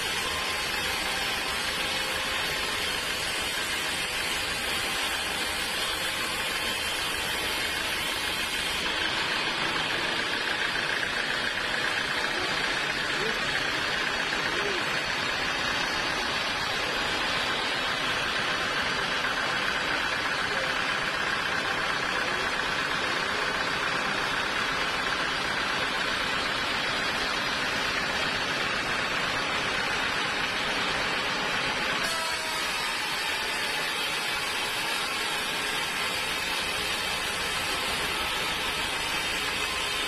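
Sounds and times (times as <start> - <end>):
sawmill machinery whirring: 0.0 - 40.0.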